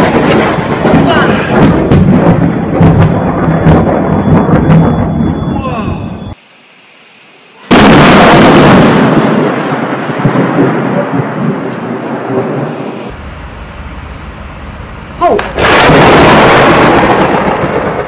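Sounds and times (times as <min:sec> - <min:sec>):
loud thunderclap rumbling: 0:00.0 - 0:06.4, 0:07.7 - 0:18.0.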